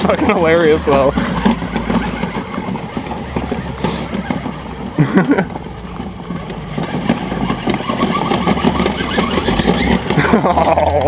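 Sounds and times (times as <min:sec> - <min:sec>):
electric motor whining: 0:00.3 - 0:11.0.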